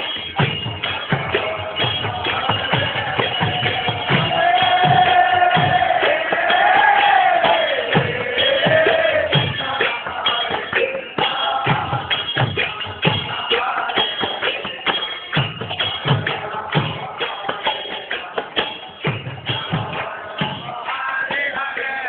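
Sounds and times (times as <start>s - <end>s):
hand cymbals ringing: 0.0s - 22.0s
mridanga drum strokes: 0.0s - 22.0s.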